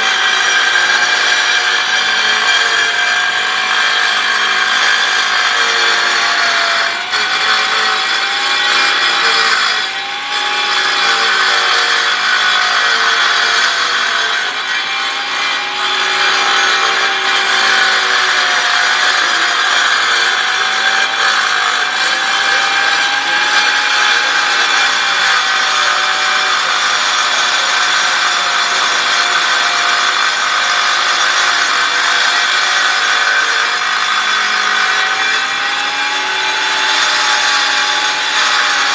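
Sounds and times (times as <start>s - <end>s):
circular saw cutting concrete: 0.0s - 38.9s.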